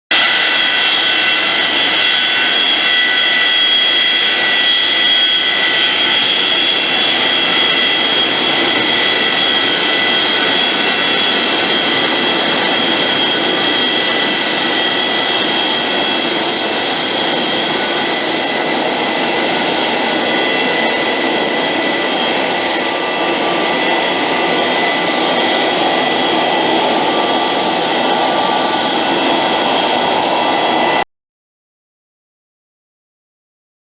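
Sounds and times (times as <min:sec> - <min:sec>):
jet engine whine and roar: 0:00.1 - 0:31.1.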